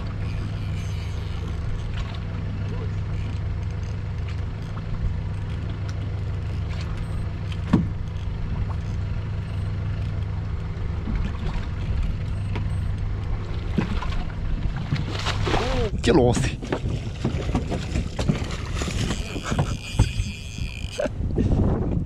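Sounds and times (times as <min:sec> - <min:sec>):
boat engine idling: 0:00.0 - 0:21.9.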